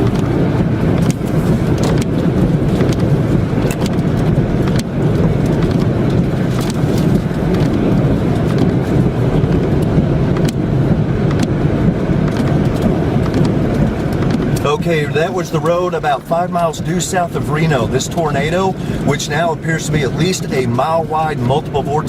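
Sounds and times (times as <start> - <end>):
car rumbling on the move: 0.0 - 22.0.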